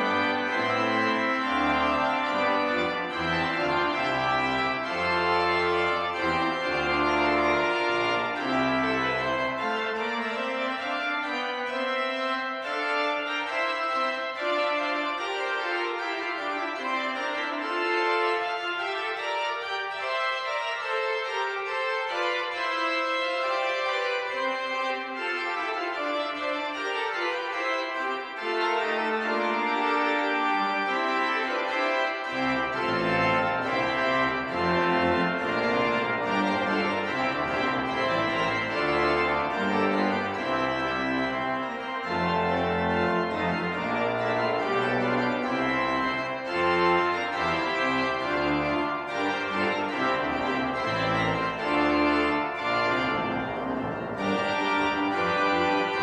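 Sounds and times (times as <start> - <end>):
church pipe organ chords: 0.0 - 56.0
deep organ pedal bass notes: 0.0 - 56.0.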